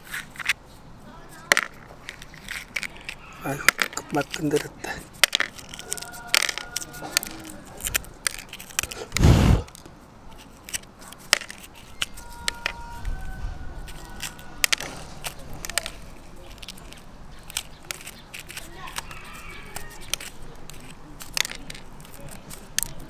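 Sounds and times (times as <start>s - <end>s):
eggshell cracking: 1.4s - 13.1s, 13.8s - 23.0s.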